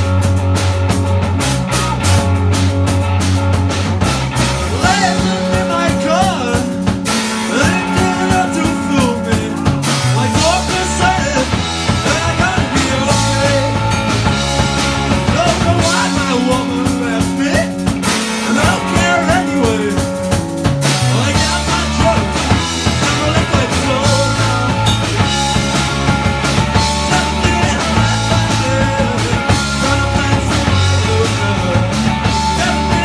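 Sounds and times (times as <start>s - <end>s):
bass guitar: 0.0s - 33.0s
drums: 0.0s - 33.0s
electric guitar: 0.0s - 33.0s.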